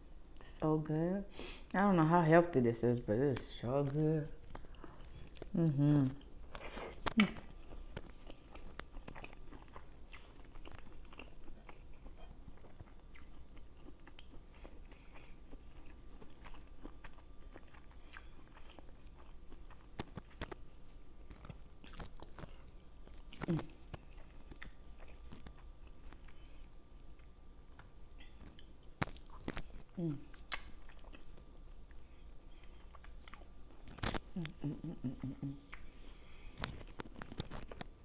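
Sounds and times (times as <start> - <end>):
person chewing with wet smacks: 3.3 - 38.0.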